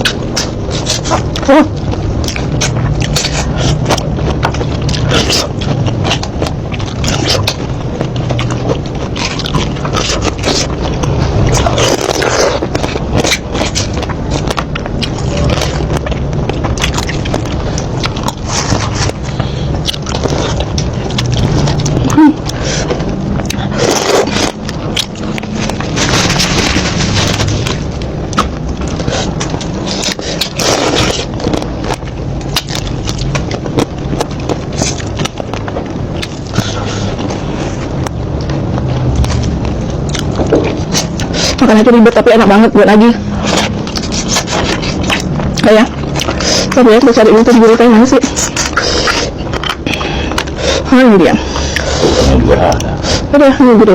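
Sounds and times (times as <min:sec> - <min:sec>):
person chewing seafood: 0:00.0 - 0:41.6, 0:43.2 - 0:46.8, 0:48.2 - 0:53.3
steady low rumble: 0:00.0 - 0:53.9.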